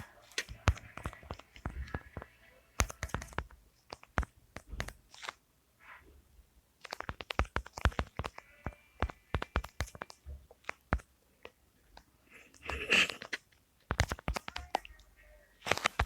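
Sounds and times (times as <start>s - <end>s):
sharp clicks and crunchy taps: 0.0s - 5.4s, 6.8s - 16.0s.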